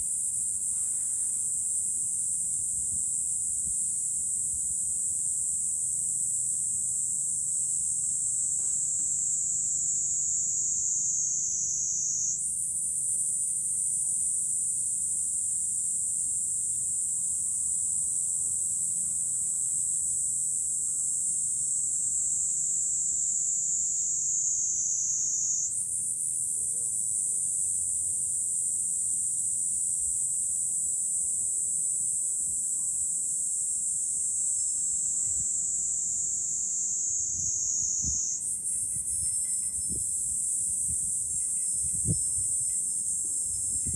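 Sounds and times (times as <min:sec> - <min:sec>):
cicadas buzzing: 0:00.1 - 0:43.9.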